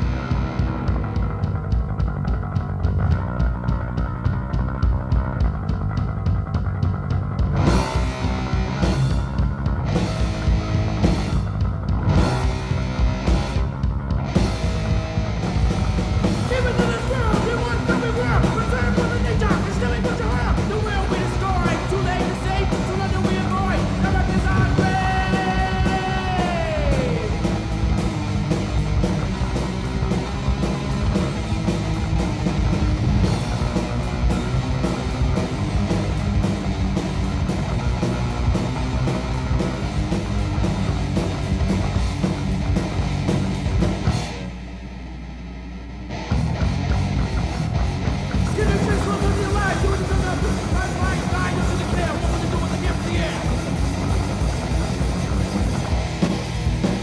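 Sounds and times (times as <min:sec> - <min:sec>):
thrash metal band playing: 0:00.0 - 0:57.0.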